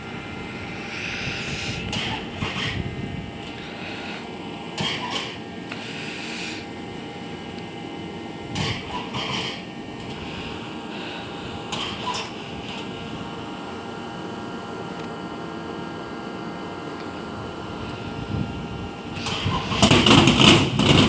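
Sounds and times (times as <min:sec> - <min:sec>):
car engine idling with surges: 0:00.0 - 0:21.0.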